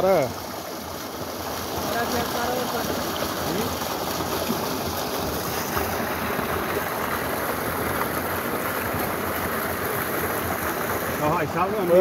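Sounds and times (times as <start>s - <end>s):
water jet pouring into tank: 0.0s - 12.0s.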